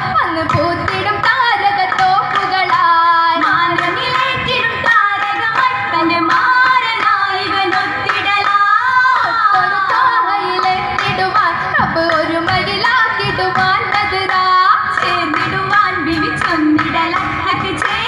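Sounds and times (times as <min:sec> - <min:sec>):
girls singing in unison: 0:00.0 - 0:18.0
hand claps keeping the beat: 0:00.0 - 0:18.0.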